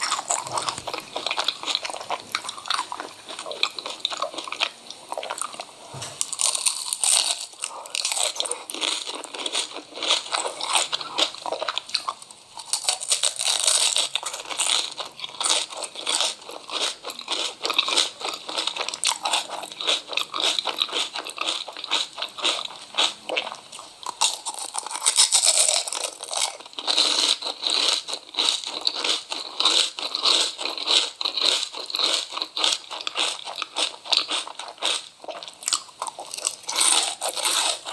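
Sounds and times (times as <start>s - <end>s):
crisp food being chewed: 0.0s - 37.9s.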